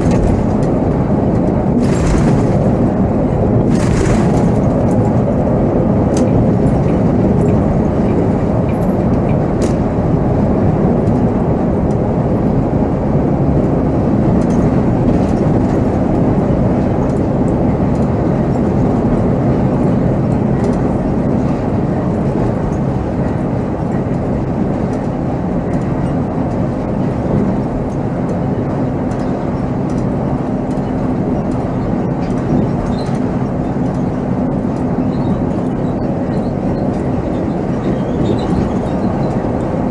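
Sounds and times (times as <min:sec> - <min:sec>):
diesel engine hum: 0:00.0 - 0:39.9
road noise: 0:00.0 - 0:39.9.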